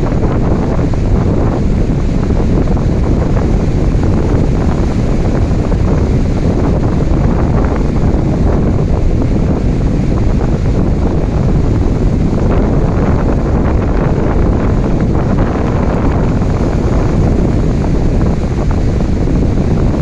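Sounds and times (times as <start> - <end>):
ocean waves: 0.0 - 20.0.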